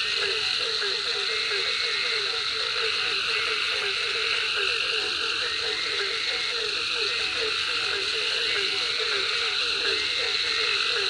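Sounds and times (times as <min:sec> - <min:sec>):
frogs croaking: 0:00.0 - 0:11.0.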